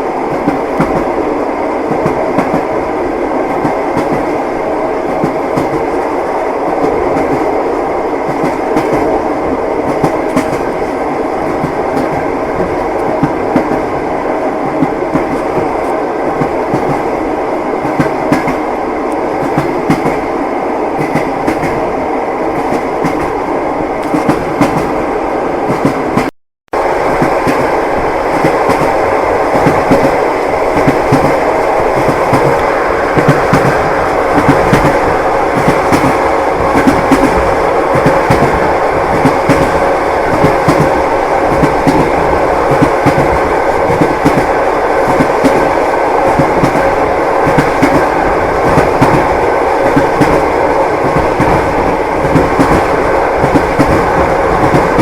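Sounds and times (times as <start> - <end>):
train wheels clicking: 0.0 - 1.2, 1.8 - 2.8, 3.4 - 7.6, 8.2 - 17.2, 17.8 - 20.3, 20.9 - 21.9, 22.5 - 23.4, 24.0 - 25.0, 25.6 - 26.3, 27.0 - 55.0.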